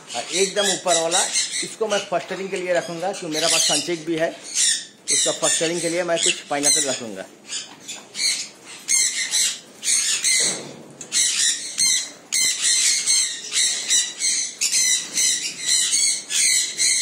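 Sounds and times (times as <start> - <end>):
parrots squawking: 0.0 - 17.0.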